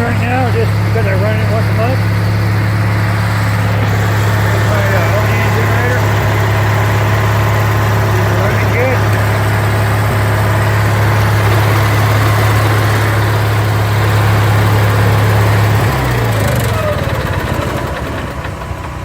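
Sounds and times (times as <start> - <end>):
generator humming: 0.0 - 19.0.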